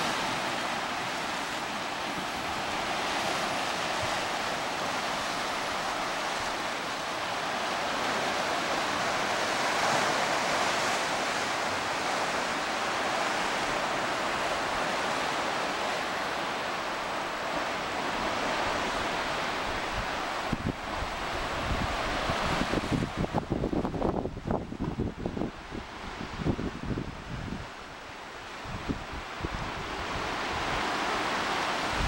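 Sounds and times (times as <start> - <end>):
sea surf on rocky shore: 0.0 - 32.0.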